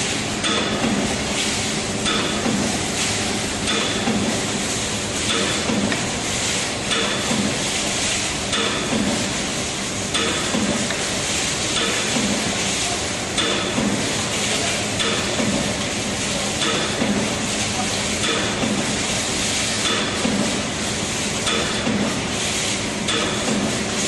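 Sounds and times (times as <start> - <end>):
continuous machine noise: 0.0 - 24.0.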